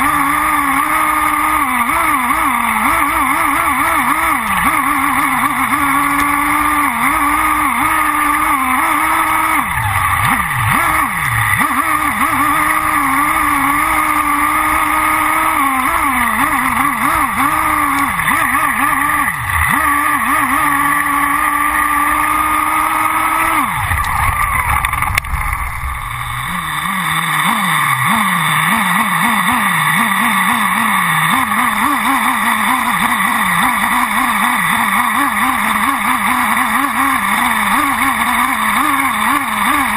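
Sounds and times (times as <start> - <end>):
nitro engine revving: 0.0 - 39.9.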